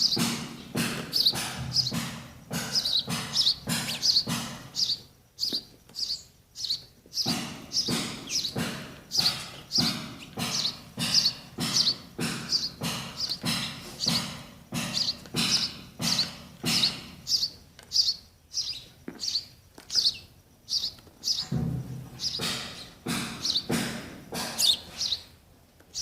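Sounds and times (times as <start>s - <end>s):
baby sparrows chirping: 0.0s - 26.0s.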